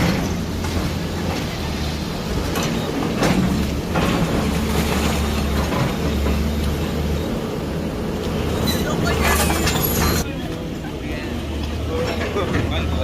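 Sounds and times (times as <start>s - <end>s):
heavy diesel machine running: 0.0s - 13.0s.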